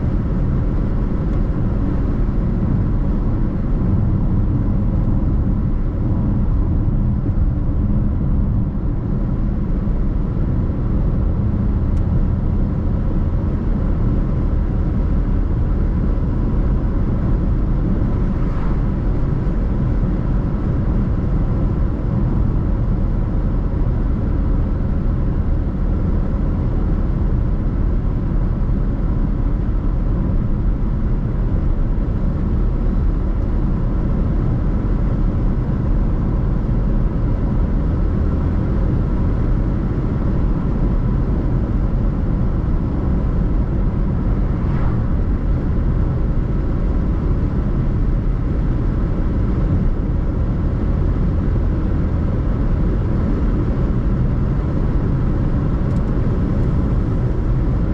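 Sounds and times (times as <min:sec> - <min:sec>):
car engine hum: 0:00.0 - 0:57.9
road rumble: 0:00.0 - 0:57.9.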